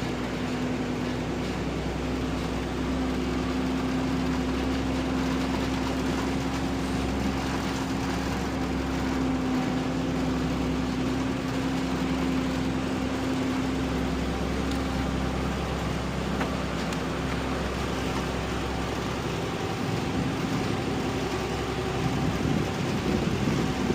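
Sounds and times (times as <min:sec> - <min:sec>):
truck engine running: 0:00.0 - 0:23.9.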